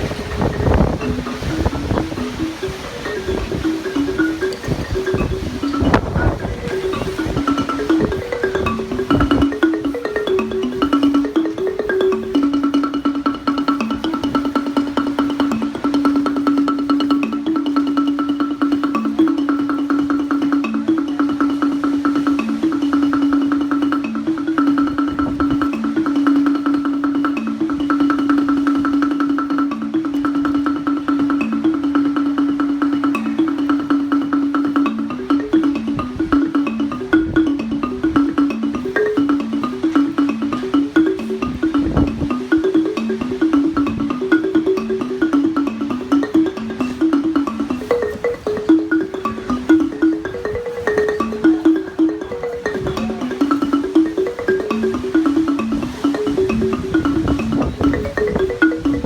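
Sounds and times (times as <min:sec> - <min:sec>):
marimba music: 0:00.0 - 0:59.0.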